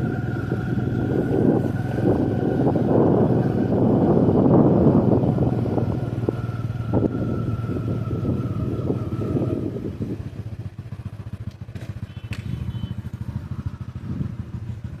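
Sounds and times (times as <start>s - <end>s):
construction machinery engine running: 0.0s - 15.0s.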